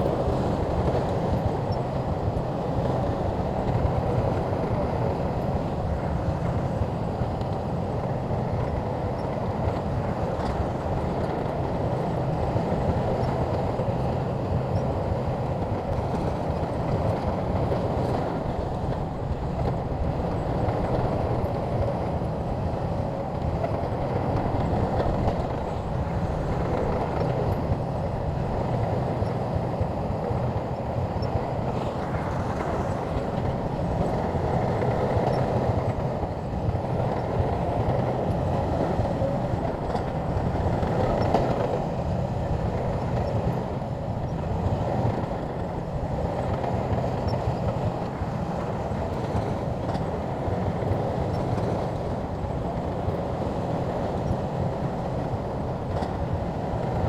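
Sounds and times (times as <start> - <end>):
bulldozer diesel rumble: 0.0 - 57.0.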